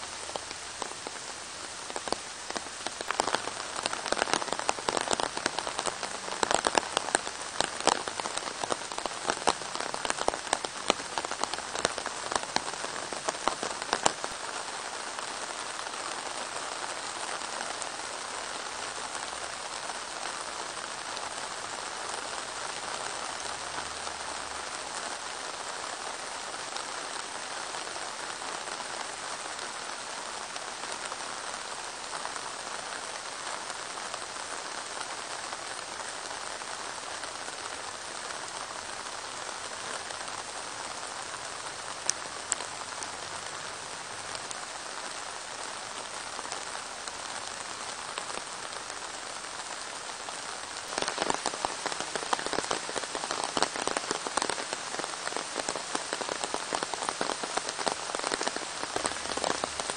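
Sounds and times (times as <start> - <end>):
rain hissing: 0.0 - 59.9.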